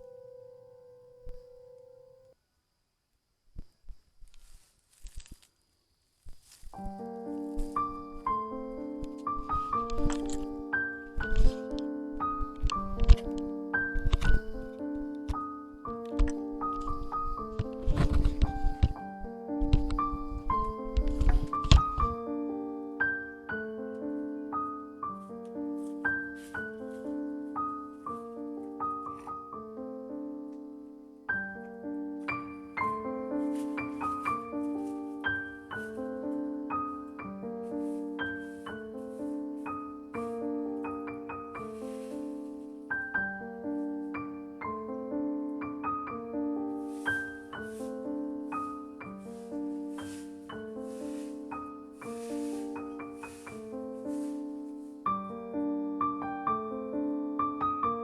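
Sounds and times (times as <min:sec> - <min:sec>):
slow piano music: 0:00.0 - 0:02.4, 0:06.7 - 0:58.0.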